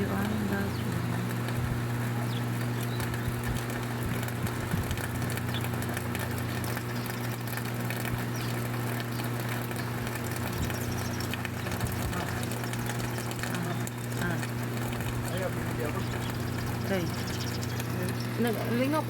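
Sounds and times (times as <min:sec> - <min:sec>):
constant low hum: 0:00.0 - 0:19.0
steady rain: 0:00.0 - 0:19.0.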